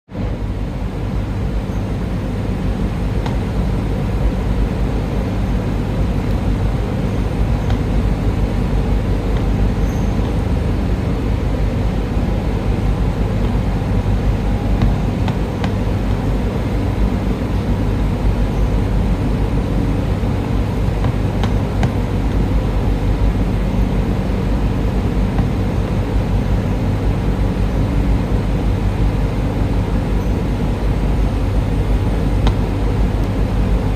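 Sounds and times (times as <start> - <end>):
air conditioner humming: 0.1 - 33.9.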